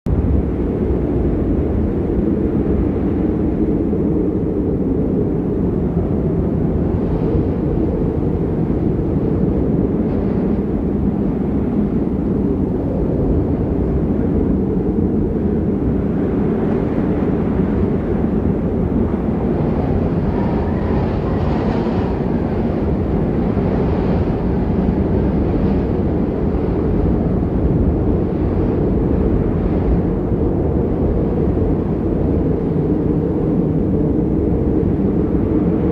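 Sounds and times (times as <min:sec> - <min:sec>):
wind blowing across microphone: 0:00.1 - 0:35.9.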